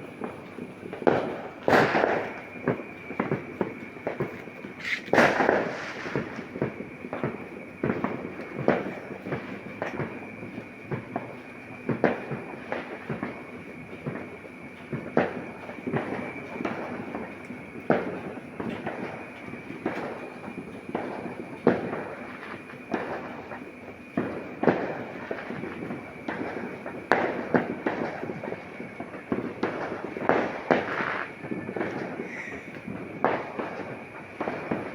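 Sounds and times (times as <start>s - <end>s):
firecrackers crackling and popping: 0.0s - 34.9s
loud firework bangs: 0.0s - 34.9s.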